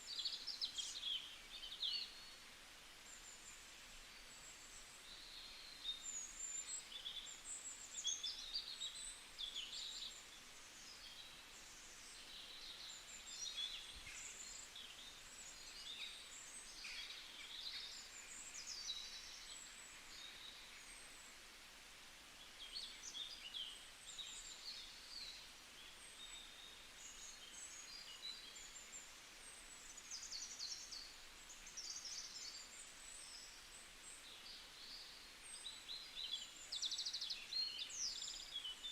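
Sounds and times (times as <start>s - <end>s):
small birds chirping: 0.0s - 21.5s, 22.2s - 38.9s
faint background hiss: 0.0s - 38.9s.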